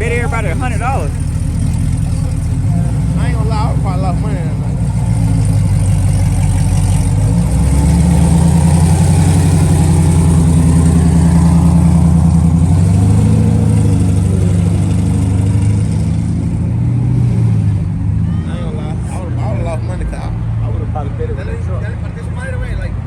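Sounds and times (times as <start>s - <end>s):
car engine running loudly: 0.0s - 23.0s.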